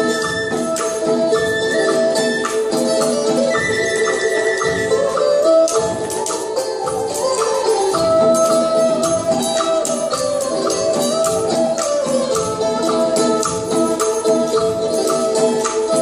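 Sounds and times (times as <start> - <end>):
held melody line: 0.0 - 16.0
jingling metal percussion: 0.0 - 16.0.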